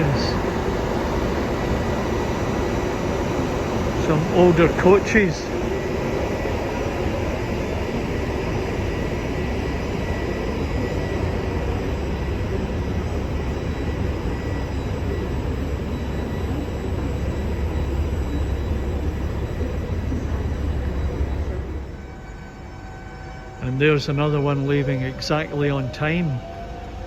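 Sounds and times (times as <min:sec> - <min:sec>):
rail noise: 0:00.0 - 0:27.0
train rumbling: 0:00.0 - 0:27.0.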